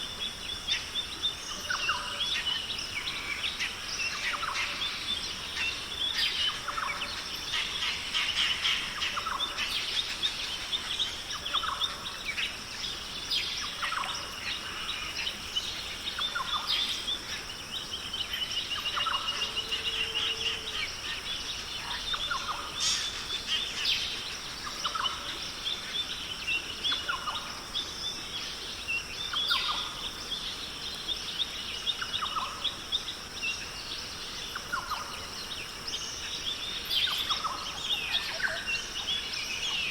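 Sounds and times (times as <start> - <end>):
birds calling and chirping: 0.0 - 39.9
steady high hiss: 0.0 - 39.9.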